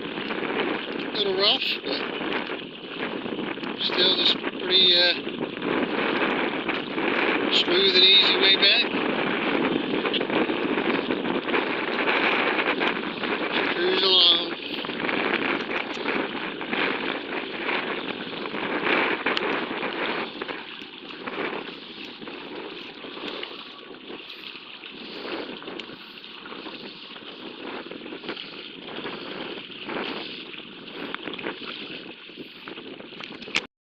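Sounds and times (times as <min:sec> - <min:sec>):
water splashing against hull: 0:00.0 - 0:33.7
wind buffeting microphone: 0:00.0 - 0:33.7.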